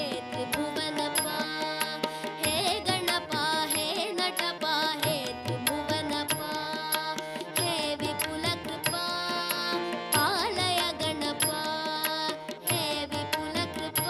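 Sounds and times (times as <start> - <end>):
hand drum percussion: 0.0 - 14.0
ornamented devotional melody: 0.0 - 14.0.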